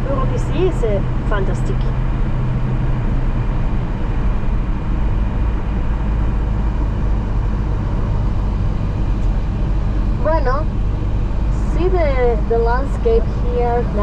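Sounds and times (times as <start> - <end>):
bus engine and tyre noise: 0.0 - 14.0.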